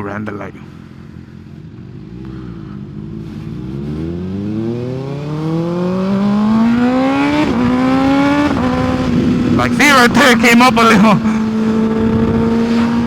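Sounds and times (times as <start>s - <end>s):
motorcycle engine revving: 1.1s - 13.0s.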